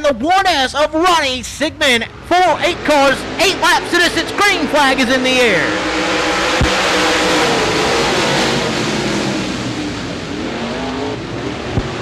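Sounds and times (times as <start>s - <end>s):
race car engines at full throttle: 1.4s - 12.0s.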